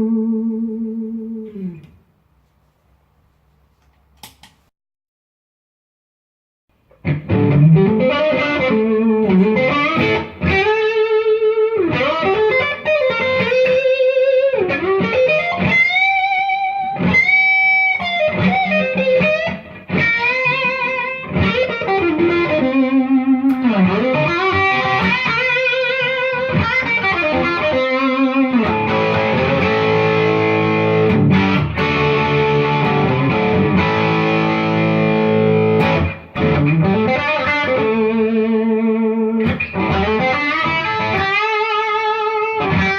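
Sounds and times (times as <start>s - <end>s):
overdriven electric guitar: 0.0s - 2.0s, 6.9s - 42.9s.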